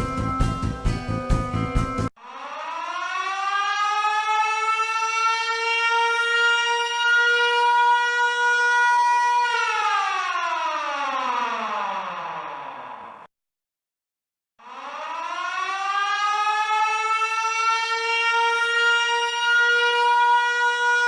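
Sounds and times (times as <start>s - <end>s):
air-raid siren wailing: 2.2s - 13.3s, 14.6s - 21.0s.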